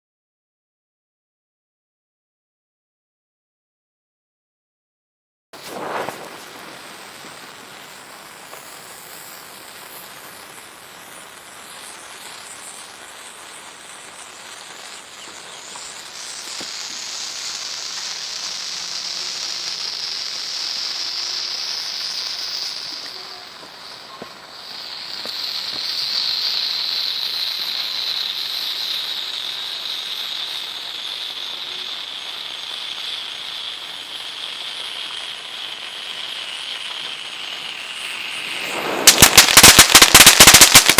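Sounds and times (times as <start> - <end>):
fountain firework hissing: 5.6 - 40.9.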